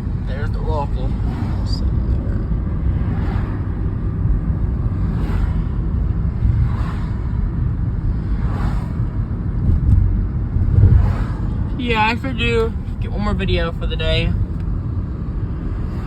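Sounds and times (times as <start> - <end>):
road rumble inside car: 0.0 - 16.0.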